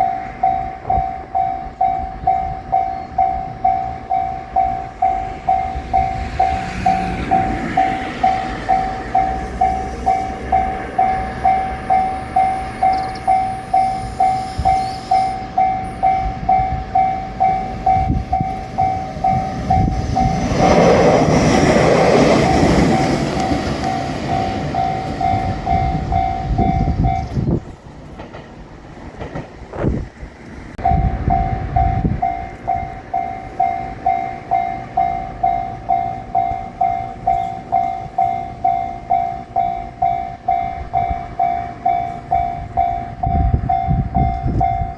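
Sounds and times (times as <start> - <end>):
level-crossing bell ringing: 0.0 - 20.6, 22.3 - 27.3, 30.8 - 44.9
train rumble: 0.0 - 44.9.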